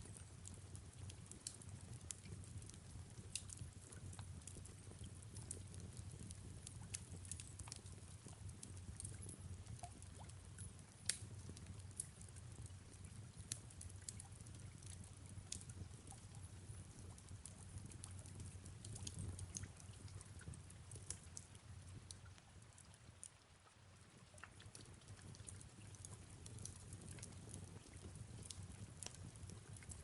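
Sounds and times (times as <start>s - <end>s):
wood fire crackling: 0.0s - 23.4s, 24.0s - 30.0s
soft rain: 0.0s - 30.0s.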